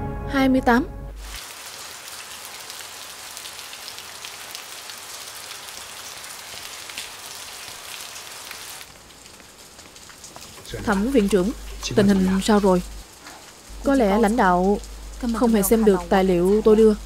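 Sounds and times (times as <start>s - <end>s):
heavy rain falling: 1.2s - 17.0s.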